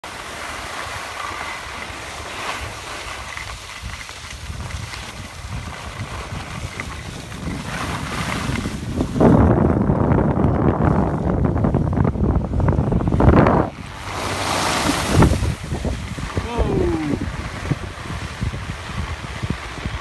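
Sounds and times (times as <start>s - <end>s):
skis hissing over snow: 0.1s - 9.3s, 12.9s - 20.0s
wind buffeting microphone: 2.6s - 20.0s.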